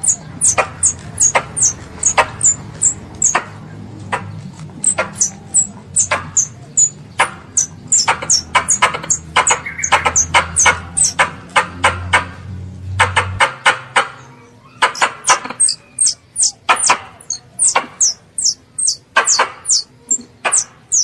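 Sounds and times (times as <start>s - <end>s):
squirrel chirping: 0.0s - 12.4s, 13.0s - 21.0s.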